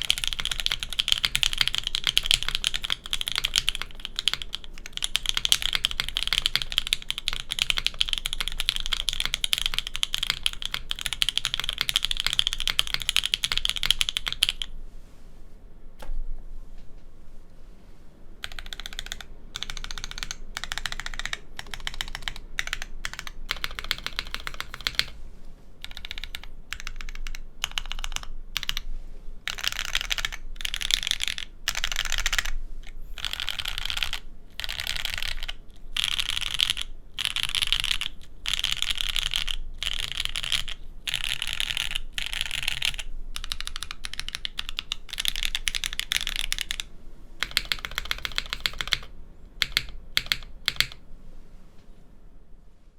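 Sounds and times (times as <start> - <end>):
fast typing on mechanical keyboard: 0.0 - 14.7, 18.4 - 25.2, 25.8 - 28.9, 29.5 - 51.0.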